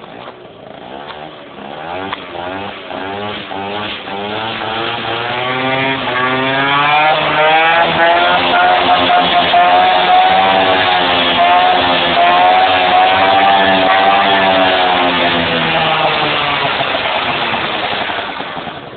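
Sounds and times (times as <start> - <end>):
scooter engine revving: 0.0 - 18.9.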